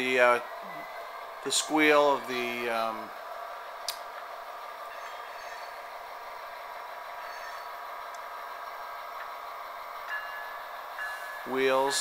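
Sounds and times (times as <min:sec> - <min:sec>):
model train engine sound: 0:00.0 - 0:12.0
wheels squealing: 0:00.0 - 0:12.0.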